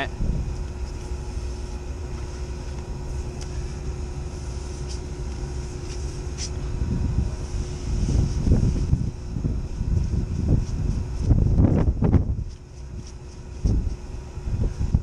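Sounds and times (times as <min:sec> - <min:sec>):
machinery rumble and hum: 0:00.0 - 0:15.0.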